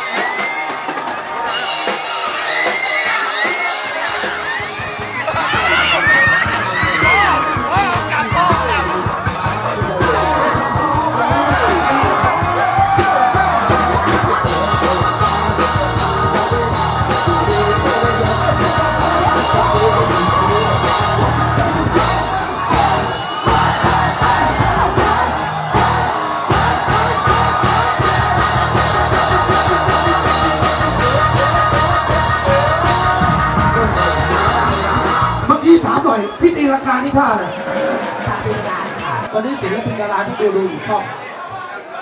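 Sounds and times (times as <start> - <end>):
people shouting: 0.0 - 36.4
loud music with singing: 0.0 - 42.0.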